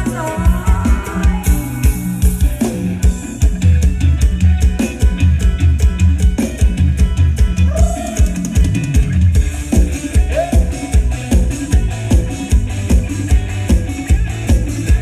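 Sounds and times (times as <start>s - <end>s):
bass line: 0.0s - 15.0s
drum kit with cymbals: 0.0s - 15.0s.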